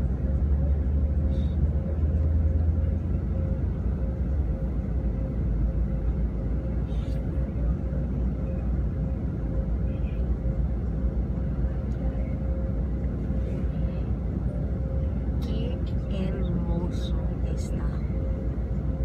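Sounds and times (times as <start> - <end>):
car engine and road rumble: 0.0 - 19.0
faint constant hum: 0.0 - 19.0.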